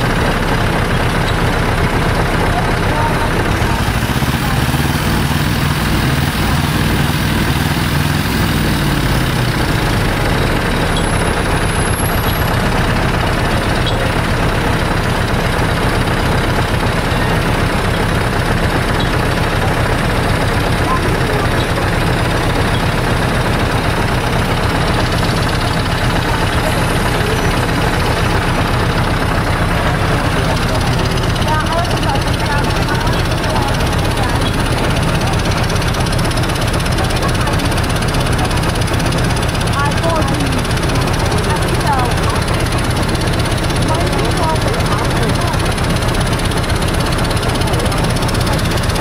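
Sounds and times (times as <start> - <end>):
train inverter whine: 0.0 - 49.0
train wheels on track: 0.0 - 49.0.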